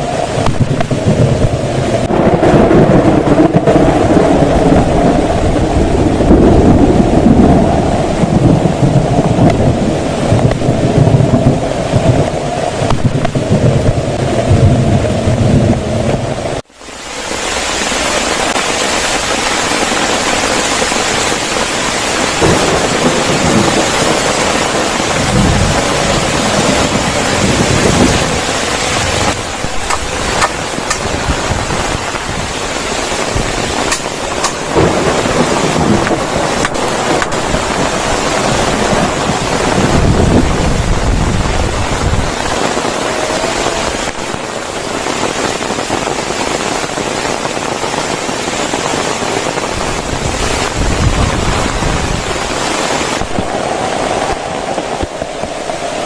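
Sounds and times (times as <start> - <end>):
wind buffeting microphone: 0.0 - 16.6, 17.3 - 56.0
heavy rain pouring: 0.0 - 56.0
thunder rumbling: 0.0 - 56.0.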